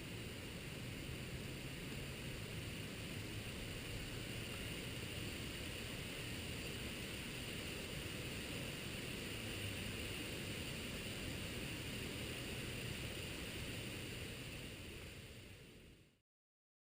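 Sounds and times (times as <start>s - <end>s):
steady rushing noise: 0.0s - 16.2s.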